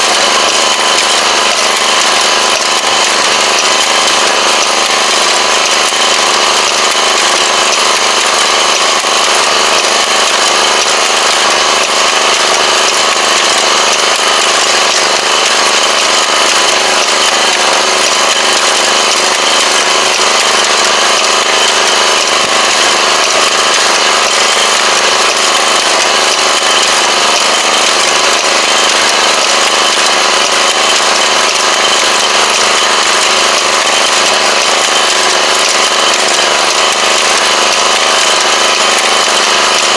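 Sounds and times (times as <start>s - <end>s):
machine engine running: 0.0s - 39.9s.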